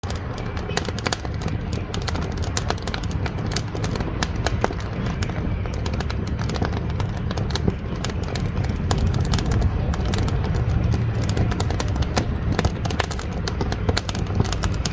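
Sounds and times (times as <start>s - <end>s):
low fire rumble: 0.0s - 14.9s
wood fire crackling: 0.0s - 14.9s.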